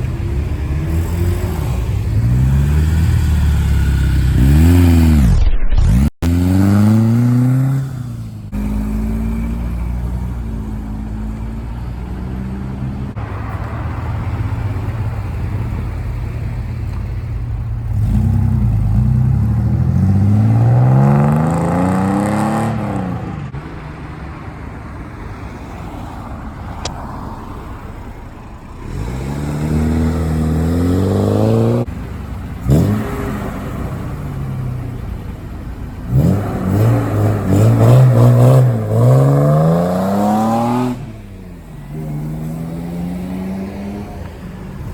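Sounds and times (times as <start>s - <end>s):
car engines accelerating: 0.0s - 44.9s
engines running close by: 0.0s - 44.9s.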